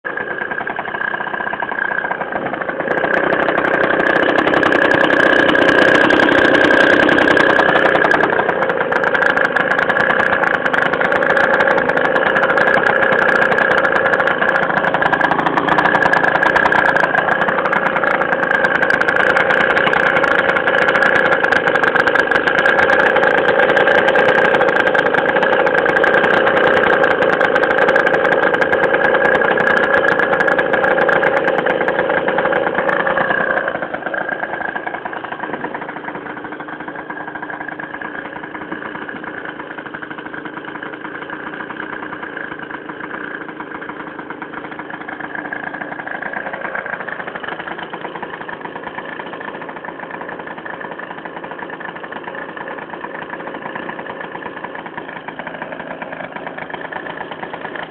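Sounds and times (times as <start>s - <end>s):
two-stroke scooter engine idling: 0.0s - 57.9s.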